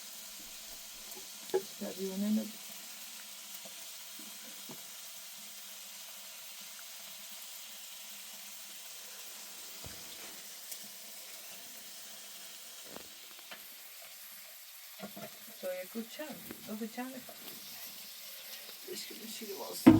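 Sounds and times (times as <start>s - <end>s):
food frying sizzle: 0.0s - 19.9s.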